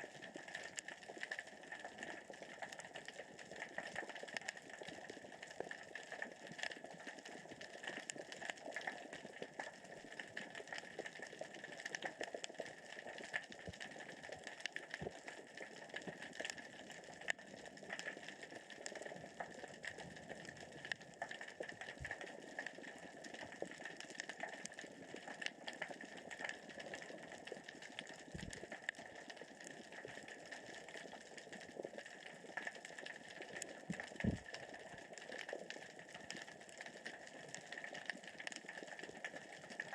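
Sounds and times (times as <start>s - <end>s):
underwater rocks rolling clicks: 0.0s - 39.9s.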